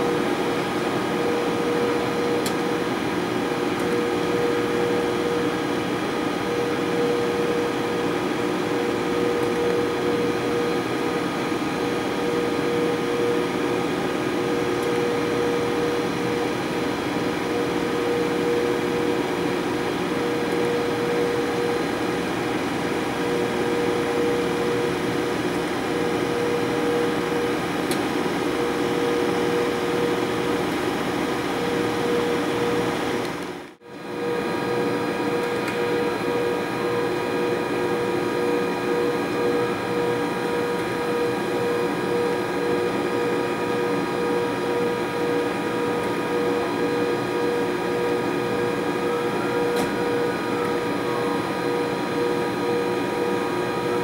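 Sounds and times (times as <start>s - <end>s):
locomotive electrical hum: 0.0s - 54.0s.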